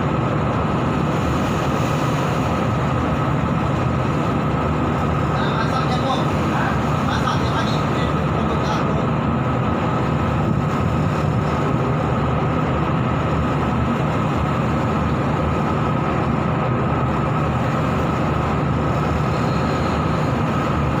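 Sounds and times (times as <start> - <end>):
rough sea: 0.0 - 21.0
ship engines running: 0.0 - 21.0.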